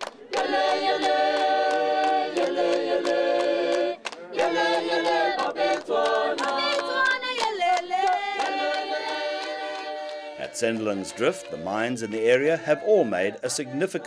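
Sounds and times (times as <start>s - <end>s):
hand clapping: 0.0s - 11.5s
group singing in harmony: 0.0s - 14.0s.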